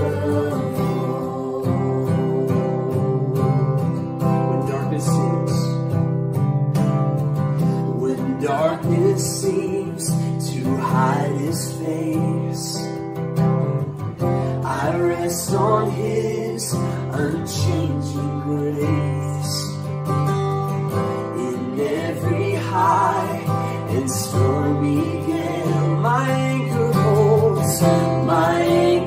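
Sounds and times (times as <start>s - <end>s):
voices singing worship song: 0.0s - 5.7s, 7.7s - 12.9s, 14.2s - 19.9s, 20.9s - 29.0s
acoustic guitar strummed: 0.0s - 29.0s.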